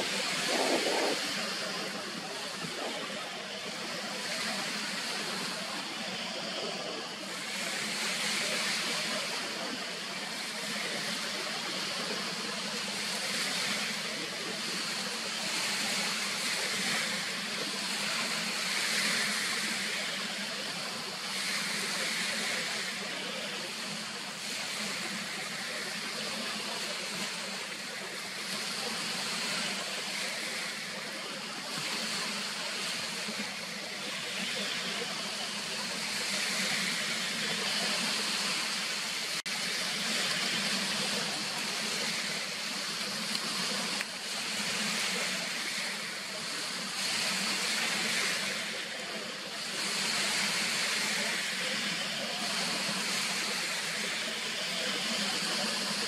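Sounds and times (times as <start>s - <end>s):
lake waves washing on shore: 0.0s - 56.0s.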